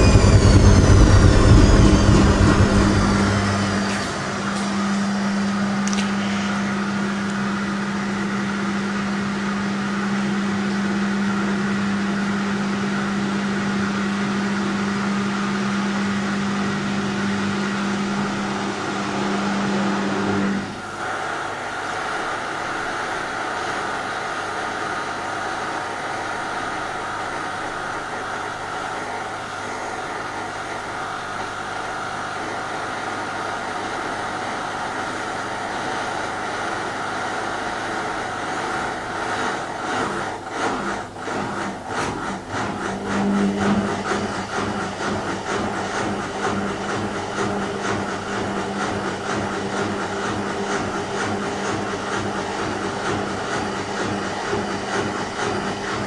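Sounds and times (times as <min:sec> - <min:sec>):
washing machine hum: 0:00.0 - 0:56.0
washing machine mechanical whirr: 0:00.0 - 0:56.0.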